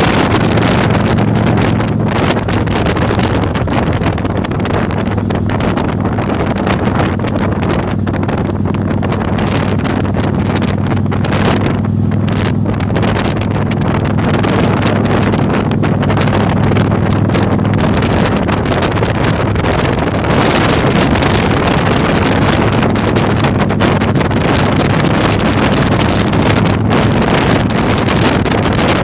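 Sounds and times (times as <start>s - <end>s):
motorcycle engine running: 0.0s - 29.0s
wind buffeting microphone: 0.0s - 29.0s.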